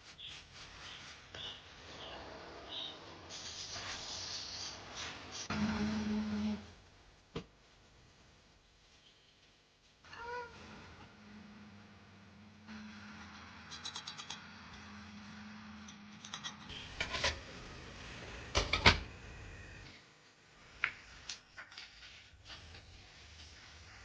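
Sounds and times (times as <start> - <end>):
low steady hum: 0.0 - 21.5.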